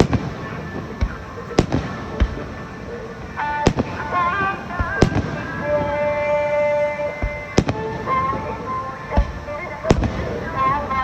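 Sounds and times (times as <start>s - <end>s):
fireworks bangs: 0.0s - 11.0s
music with wavering melody: 0.0s - 11.0s.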